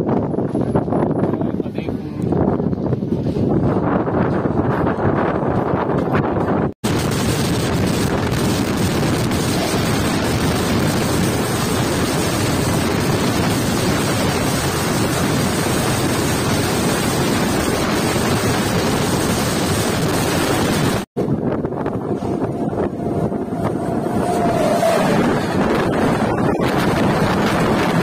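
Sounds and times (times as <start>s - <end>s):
passing train alongside: 0.0s - 28.0s
train rushing and rumbling: 0.0s - 28.0s
wind buffeting microphone: 0.0s - 28.0s.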